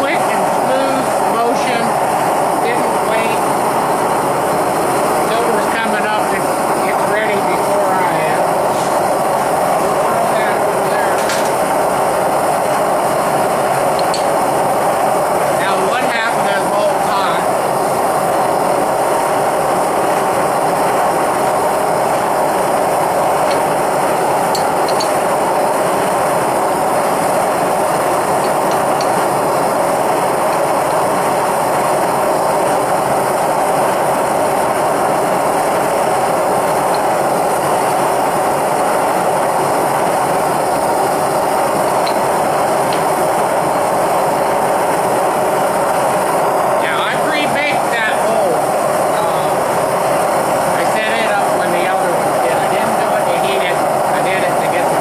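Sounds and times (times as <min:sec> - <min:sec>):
gas burner flame hissing: 0:00.0 - 0:55.0.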